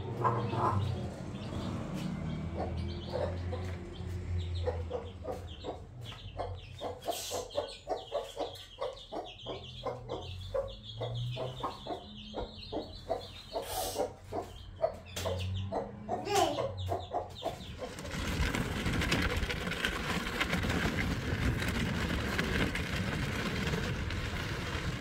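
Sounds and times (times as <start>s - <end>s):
chickens clucking: 0.0s - 20.9s.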